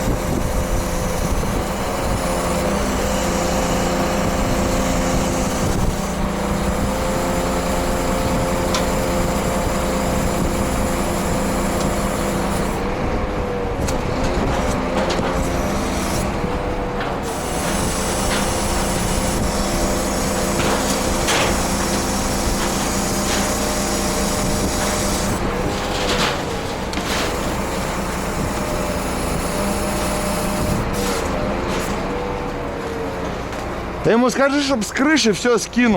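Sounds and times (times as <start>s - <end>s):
truck diesel engine running: 0.0s - 35.9s.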